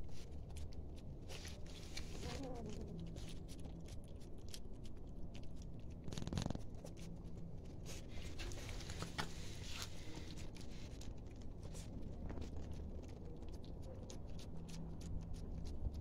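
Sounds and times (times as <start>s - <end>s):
cats chewing wet food: 0.0s - 16.0s.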